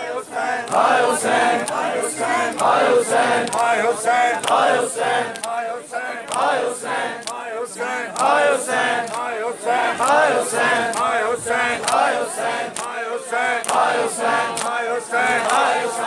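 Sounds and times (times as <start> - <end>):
men chanting together: 0.0 - 16.0
men slapping chests in unison: 0.6 - 16.0.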